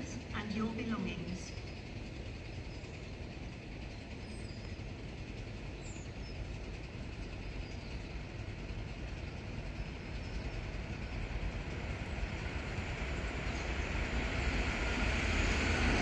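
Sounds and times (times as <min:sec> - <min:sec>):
steam train rumbling: 0:00.0 - 0:16.0.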